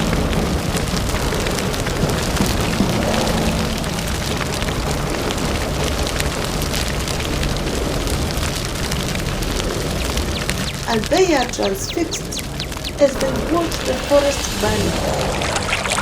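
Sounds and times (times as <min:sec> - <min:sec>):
fire crackling and popping: 0:00.0 - 0:16.0
fire rushing and rumbling: 0:00.0 - 0:16.0.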